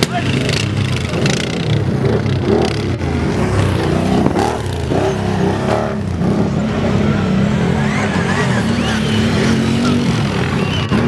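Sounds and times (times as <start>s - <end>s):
quad bike engines revving: 0.0s - 11.0s.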